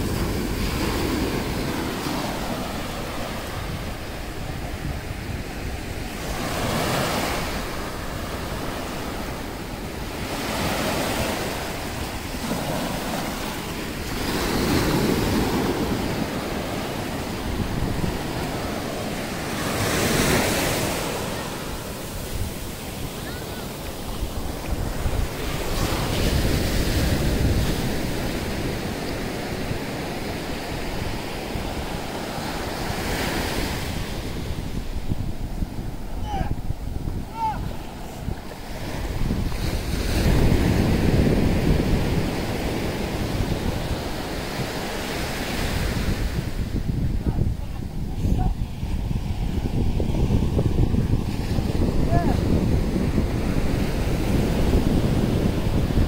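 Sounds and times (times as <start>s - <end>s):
ocean waves breaking on sand: 0.0s - 56.0s.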